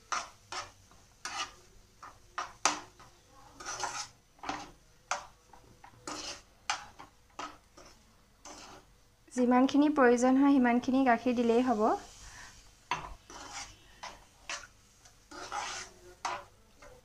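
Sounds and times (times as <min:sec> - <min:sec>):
metal spatula scraping frying pan: 0:00.0 - 0:08.9, 0:11.6 - 0:17.0.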